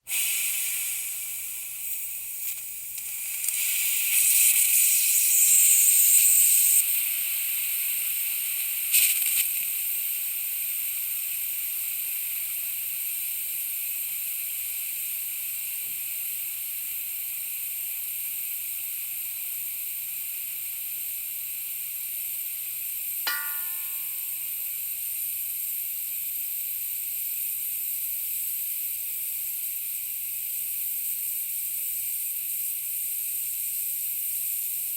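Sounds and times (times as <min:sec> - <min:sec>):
air leak hissing: 0:00.0 - 0:34.9.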